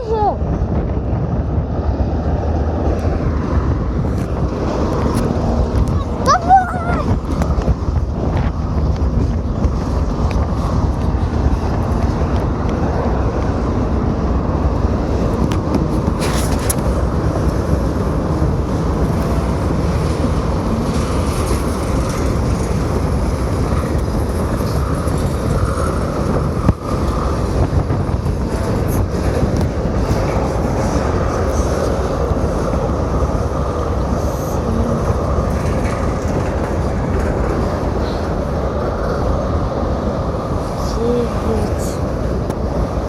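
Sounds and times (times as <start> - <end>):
locomotive and wagons rumbling: 0.0 - 43.0.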